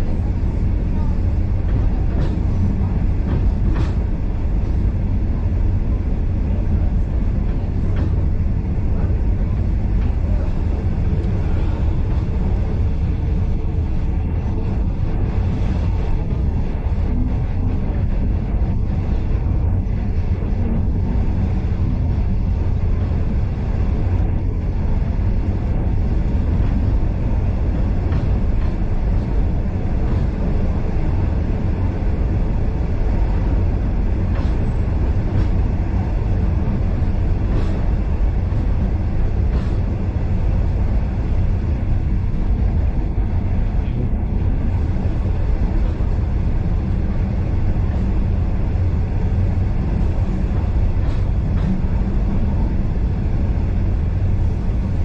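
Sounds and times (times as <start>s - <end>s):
rumble of train wheels on rails: 0.0s - 55.0s.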